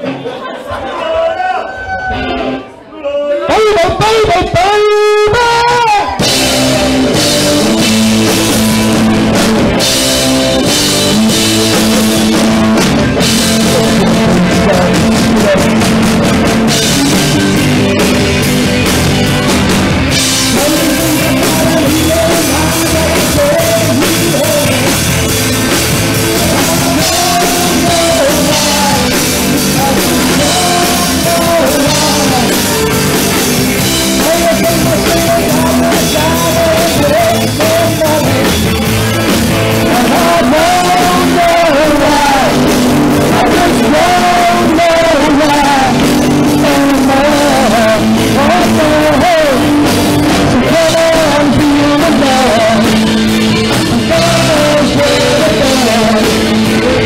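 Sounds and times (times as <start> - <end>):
person singing: 3.4 - 57.0
drum kit: 3.8 - 57.0
electric guitars: 3.9 - 57.0.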